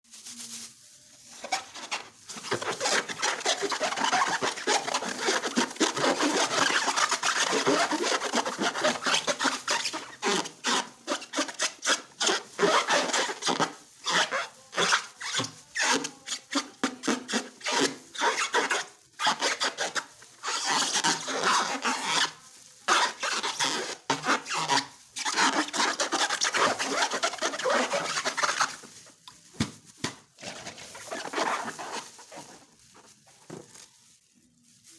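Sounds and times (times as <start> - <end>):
rasping rubbing of balloons: 1.3 - 28.9, 30.4 - 33.6.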